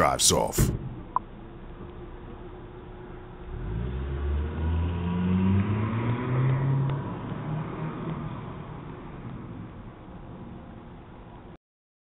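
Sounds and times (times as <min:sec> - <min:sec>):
car engine accelerating: 0:01.3 - 0:11.6.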